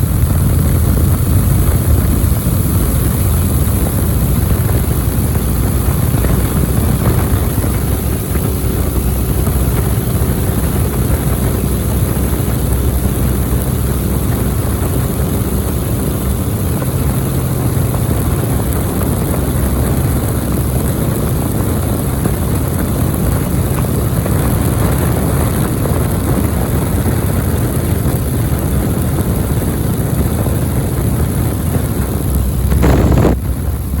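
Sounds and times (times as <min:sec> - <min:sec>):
biplane engine and propeller: 0:00.0 - 0:34.0
wind rush: 0:00.0 - 0:34.0.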